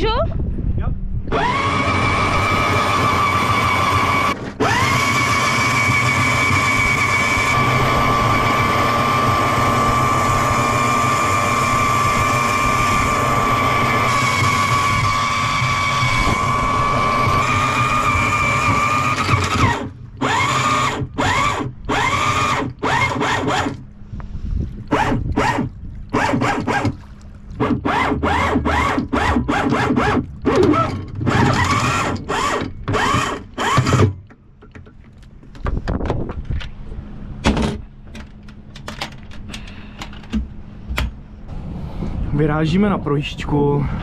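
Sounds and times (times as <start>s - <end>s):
anchor windlass motor whine: 1.0s - 44.0s.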